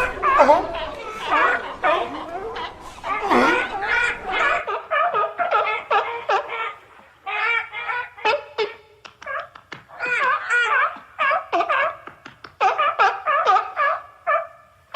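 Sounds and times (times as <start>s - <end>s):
sea lions barking: 0.0s - 14.9s.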